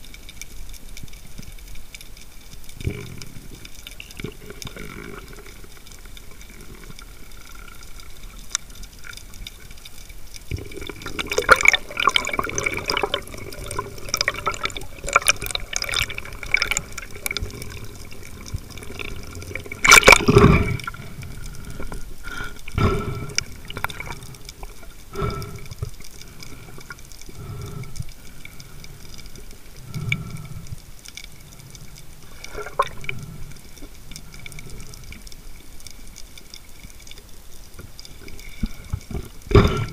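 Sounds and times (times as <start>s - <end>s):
underwater crackles and clicks: 0.0s - 39.9s
water sloshing and bubbling: 0.0s - 39.9s.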